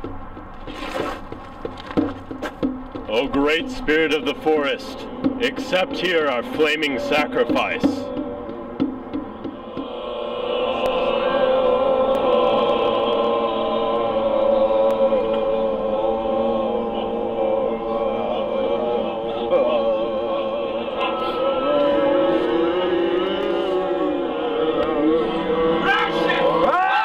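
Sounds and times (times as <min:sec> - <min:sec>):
choir singing a slow chant: 0:04.8 - 0:27.0.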